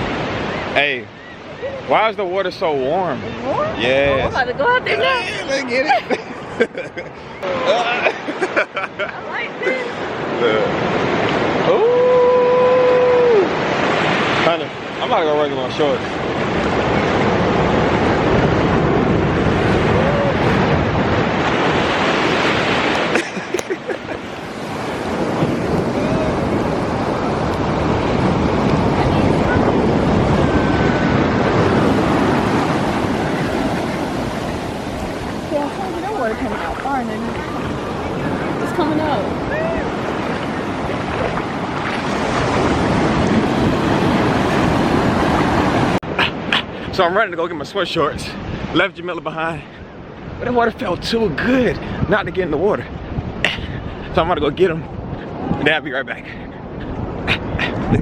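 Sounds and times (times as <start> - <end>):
wind rumbling on microphone: 0.0 - 7.6, 8.8 - 58.0
ocean surf breaking on shore: 0.0 - 58.0.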